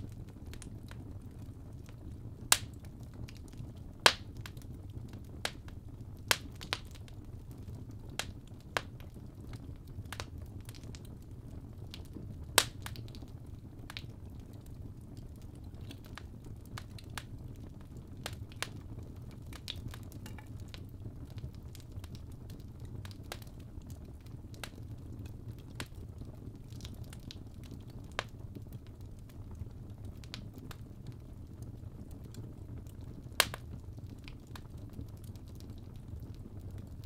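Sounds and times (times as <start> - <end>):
fire crackling and popping: 0.0 - 37.0
low rumble of burning: 0.0 - 37.0.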